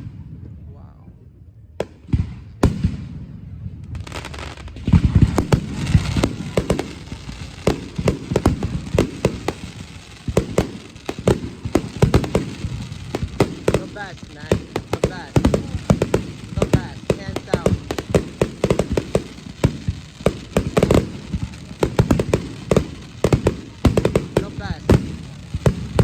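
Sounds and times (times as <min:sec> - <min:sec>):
fireworks booming: 0:01.8 - 0:26.0
fireworks crackling: 0:01.8 - 0:26.0.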